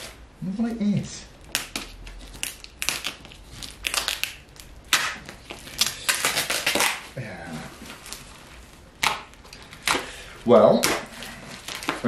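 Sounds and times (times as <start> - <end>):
plastic and tape crinkling and ripping: 1.4 - 12.0.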